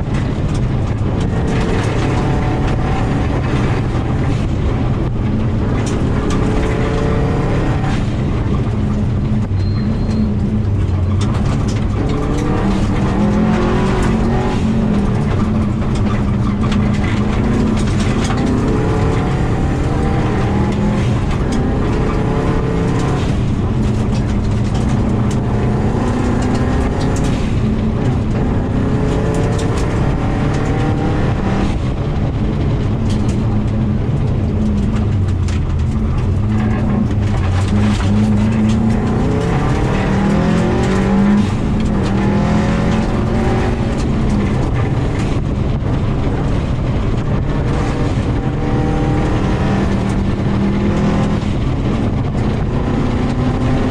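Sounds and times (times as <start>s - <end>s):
car engine revving through gears: 0.0s - 53.9s
gravel striking car: 0.0s - 53.9s.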